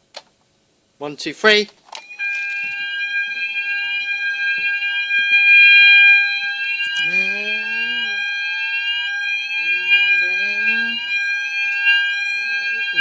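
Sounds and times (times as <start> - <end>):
alarm sounder steady tone: 2.0 - 13.0
fire alarm rising whoop: 2.0 - 13.0.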